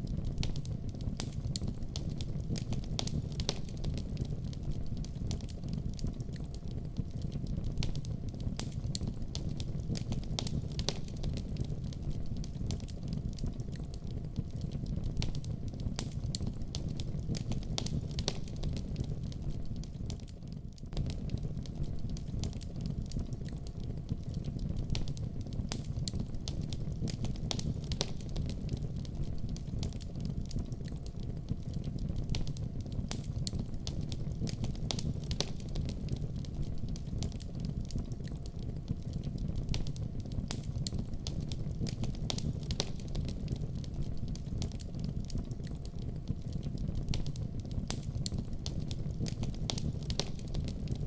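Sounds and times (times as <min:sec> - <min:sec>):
flames rumbling: 0:00.0 - 0:51.0
wood fire pops and snaps: 0:00.1 - 0:51.0.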